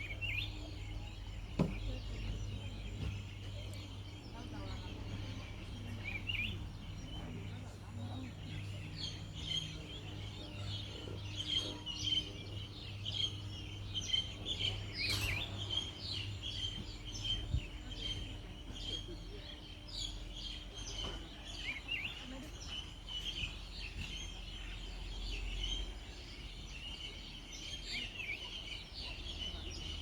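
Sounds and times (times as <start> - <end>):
birds chirping and singing: 0.0 - 30.0.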